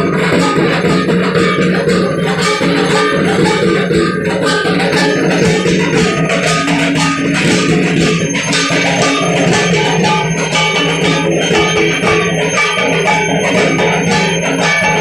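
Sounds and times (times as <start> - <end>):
bells ringing: 0.0 - 15.0
drums beating fast rhythm: 0.0 - 15.0.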